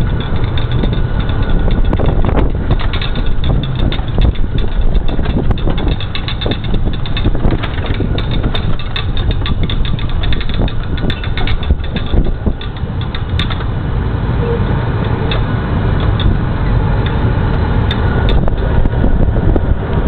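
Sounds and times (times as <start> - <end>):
diesel engine running: 0.0 - 20.0
heavy road noise: 0.0 - 20.0
vehicle rattles and knocks: 0.0 - 20.0
wind on microphone: 0.0 - 20.0.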